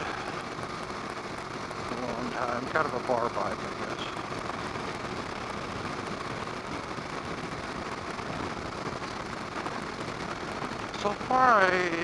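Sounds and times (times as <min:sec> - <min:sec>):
motorcycle road noise: 0:00.0 - 0:12.0.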